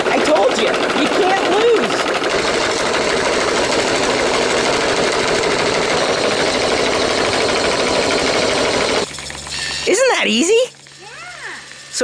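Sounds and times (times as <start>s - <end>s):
gutter robot motor whirring: 0.0s - 12.0s.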